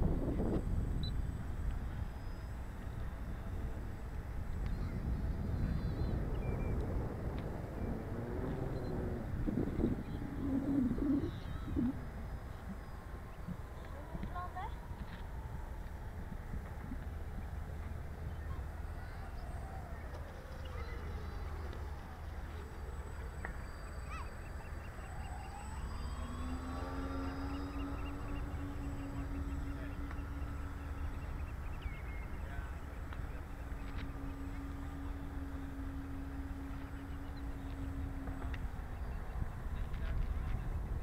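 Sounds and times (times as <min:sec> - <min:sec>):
model plane propellers droning: 0:00.0 - 0:41.0.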